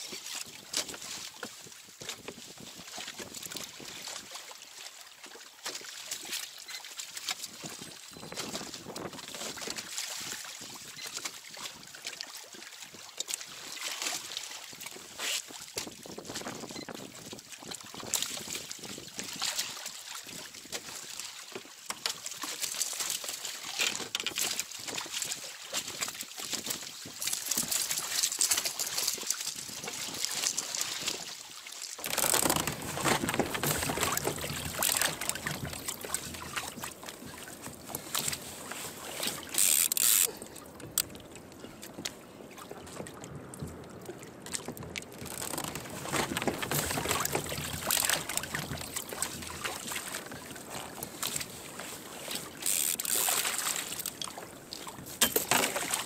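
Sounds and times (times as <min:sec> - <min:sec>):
rush of water and wind: 0:00.0 - 0:56.0
water sloshing against kayak hull: 0:00.1 - 0:56.0.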